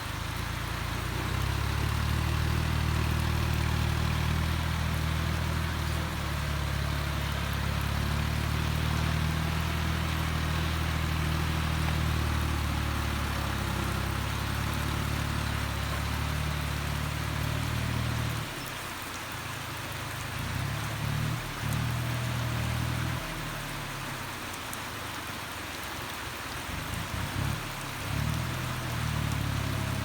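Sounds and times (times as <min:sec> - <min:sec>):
diesel engine running: 0:00.0 - 0:24.8, 0:26.6 - 0:30.0.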